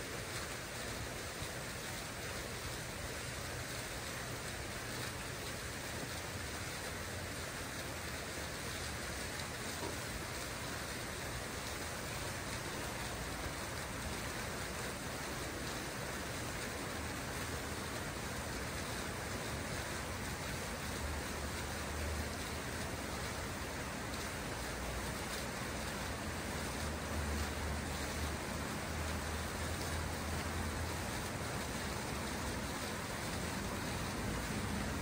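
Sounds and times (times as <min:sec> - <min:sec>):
water fountain splashing: 0:00.0 - 0:35.0.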